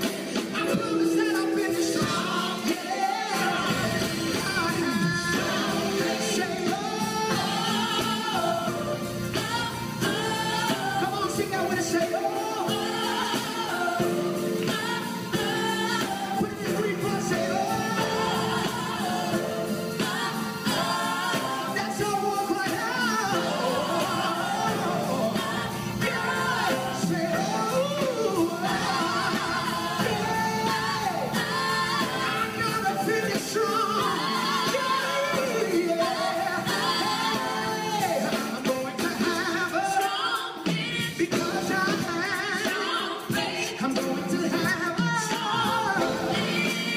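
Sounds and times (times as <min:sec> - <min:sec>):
backing vocalists: 0:00.0 - 0:46.9
gospel band playing: 0:00.0 - 0:46.9
man singing lead vocals: 0:00.0 - 0:46.9.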